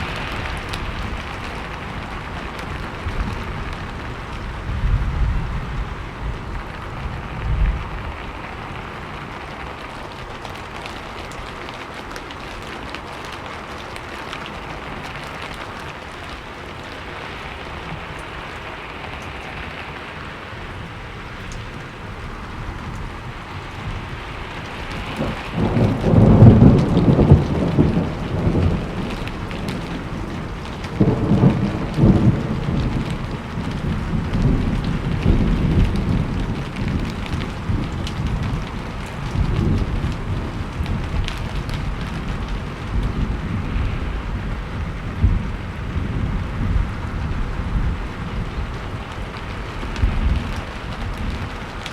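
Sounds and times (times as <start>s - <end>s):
steady rain falling: 0.0s - 51.9s
thunder rumbling: 0.0s - 51.9s.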